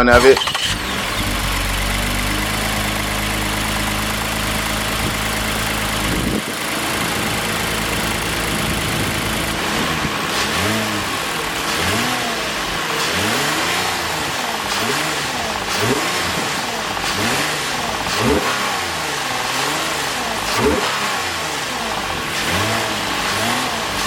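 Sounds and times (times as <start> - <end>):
car engine idling: 0.0 - 24.0
engine revving: 0.0 - 24.0.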